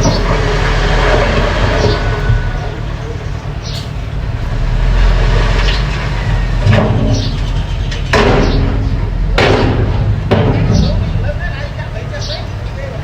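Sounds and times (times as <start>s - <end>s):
metal clanks and scrapes: 0.0s - 11.5s
bulldozer engine rumble: 0.0s - 13.0s.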